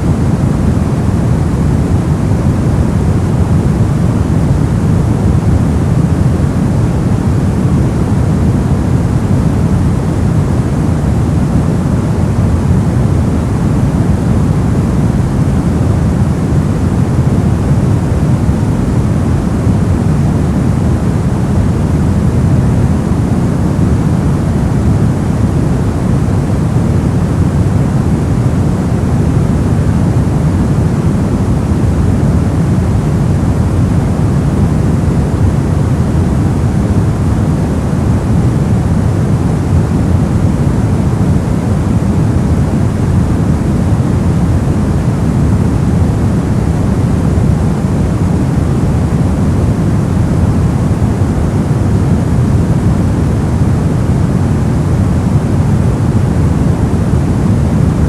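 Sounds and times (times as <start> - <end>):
deep dull white noise hiss: 0.0 - 58.0.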